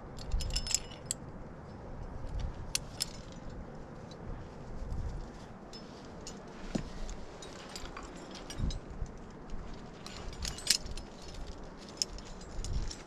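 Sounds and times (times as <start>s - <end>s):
metal gear clinking and rattling: 0.0s - 13.0s.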